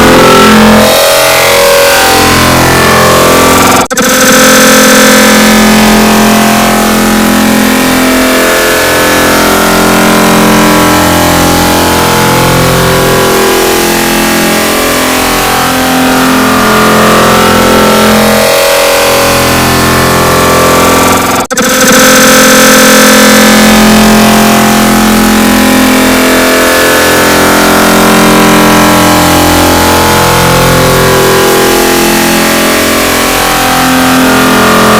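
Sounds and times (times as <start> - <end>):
dense drone of held tones: 0.0 - 34.9.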